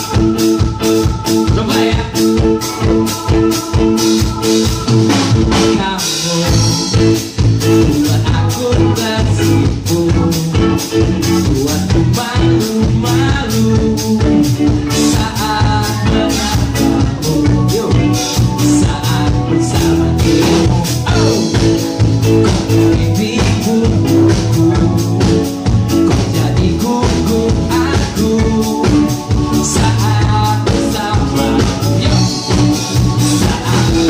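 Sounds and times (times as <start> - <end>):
bass guitar: 0.0 - 34.0
drum kit: 0.0 - 34.0
electric guitar: 0.0 - 34.0
male lead vocal: 0.0 - 34.0.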